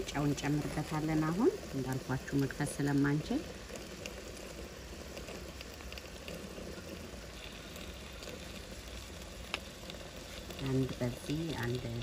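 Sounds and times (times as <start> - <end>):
stew sizzling in a pot: 0.0 - 12.0.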